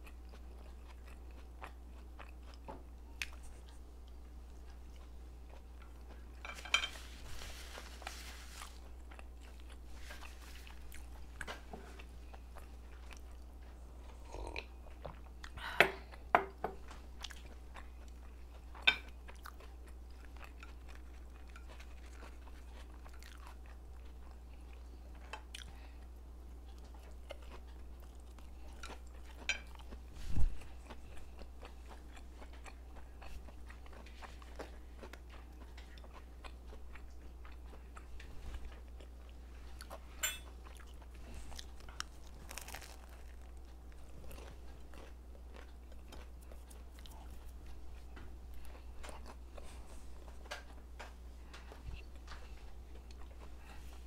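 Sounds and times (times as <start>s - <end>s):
chewing and biting food: 0.0s - 6.5s, 7.7s - 54.0s
steady low hum: 0.0s - 54.0s.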